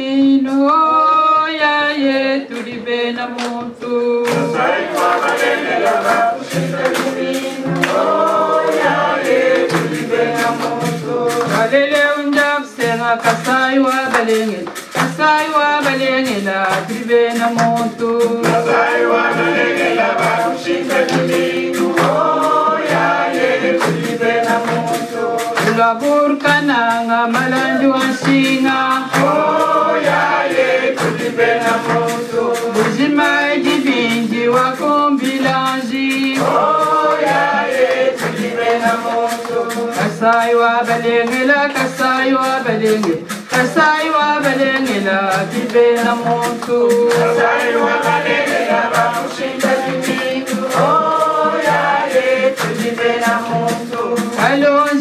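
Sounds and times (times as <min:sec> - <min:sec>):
group singing: 0:00.0 - 0:55.0
steady percussive beat: 0:02.5 - 0:55.0.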